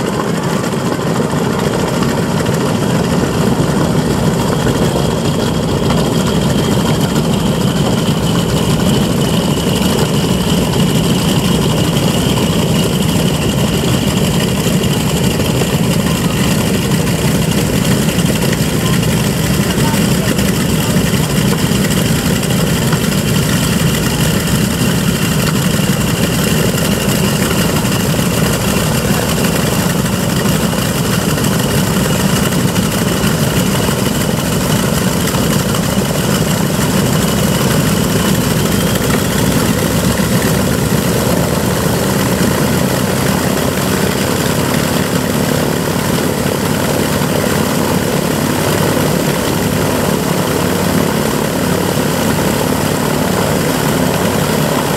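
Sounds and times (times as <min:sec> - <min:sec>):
propeller aircraft engines idling: 0:00.0 - 0:54.9.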